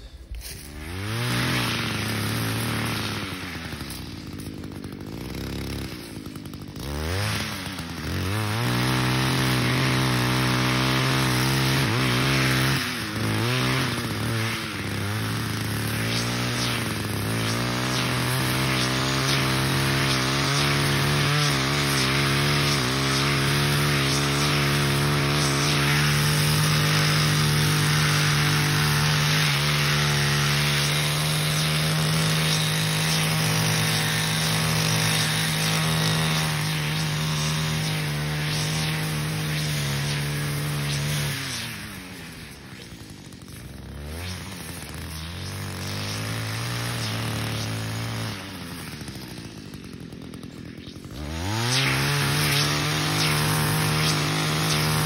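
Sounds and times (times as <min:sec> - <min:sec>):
weed eater engine revving: 0:00.0 - 0:55.0.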